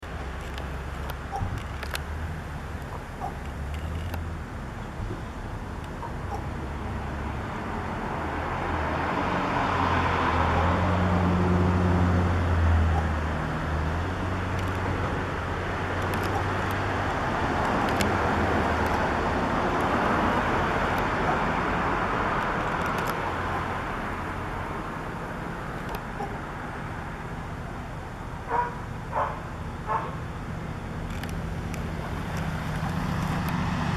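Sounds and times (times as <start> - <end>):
low engine hum: 0.0 - 33.9
vehicles passing: 0.0 - 33.9.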